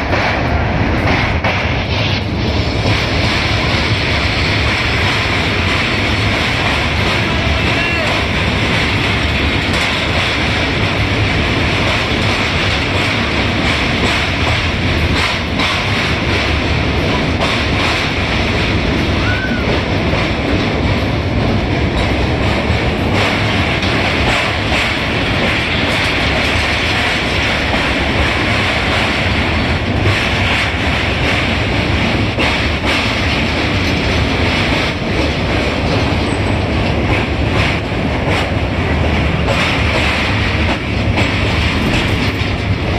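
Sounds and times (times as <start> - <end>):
train wheels rumbling and rattling: 0.0 - 42.9.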